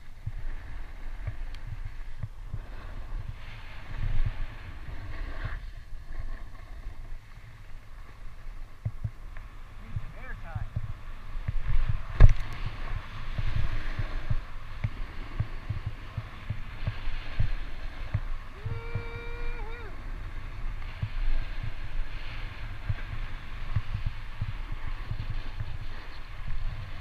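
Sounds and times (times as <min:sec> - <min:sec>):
skis scraping over snow: 0:00.0 - 0:27.0
wind buffeting microphone: 0:00.0 - 0:27.0.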